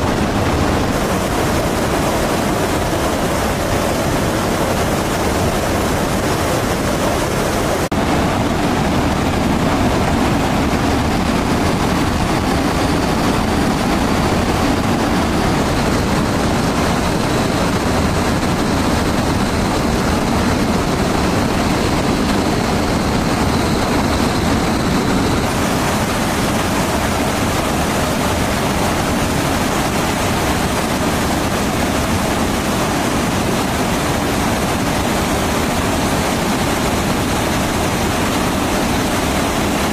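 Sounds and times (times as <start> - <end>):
fighter jets roaring in flight: 0.0 - 39.9.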